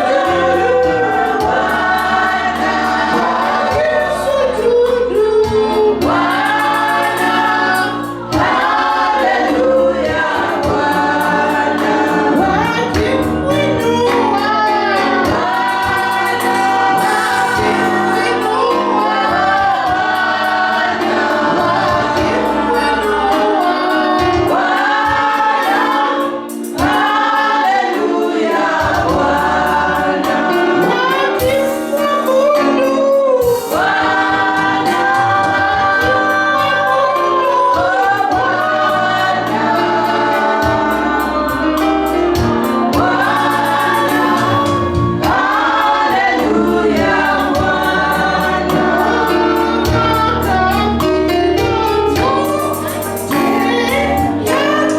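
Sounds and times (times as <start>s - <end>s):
choir singing gospel song: 0.0s - 54.9s
instrumental accompaniment: 0.0s - 54.9s.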